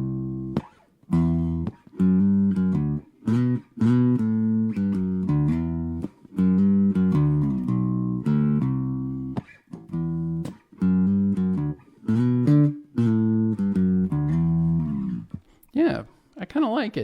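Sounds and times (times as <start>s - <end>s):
electric bass guitar plucked notes: 0.0s - 15.4s.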